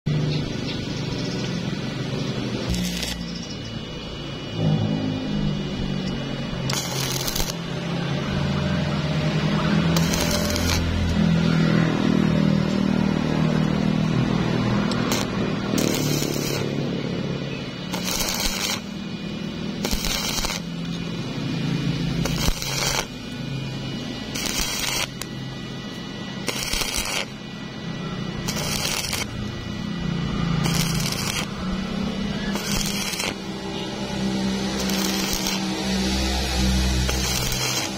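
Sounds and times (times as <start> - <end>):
steady low drone: 0.1 - 37.9
welding arc crackling: 0.1 - 37.9.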